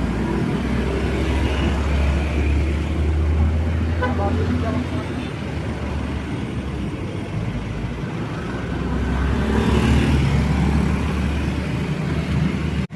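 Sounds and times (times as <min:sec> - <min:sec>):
vehicle passing: 0:00.0 - 0:12.8
road traffic rumble: 0:00.0 - 0:12.9.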